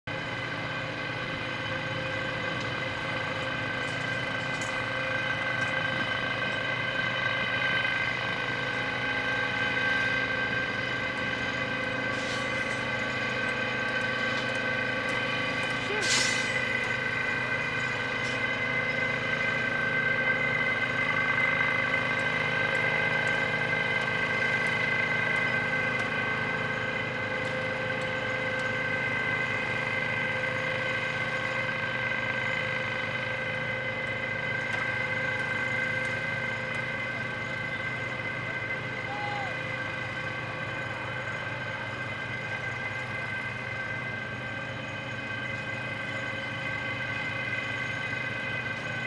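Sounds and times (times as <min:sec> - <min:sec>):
excavator diesel engines: 0:00.0 - 0:49.0.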